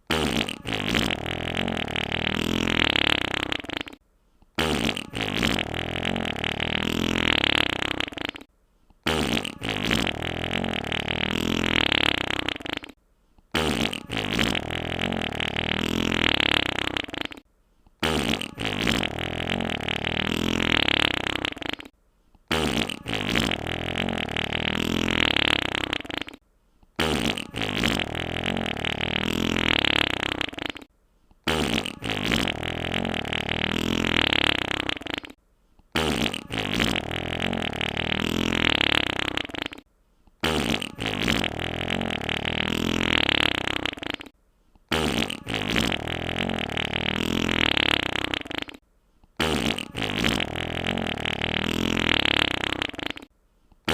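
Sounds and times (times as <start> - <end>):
wet fart sound effect: 0.0 - 4.0, 4.6 - 26.4, 27.0 - 48.8, 49.4 - 53.9.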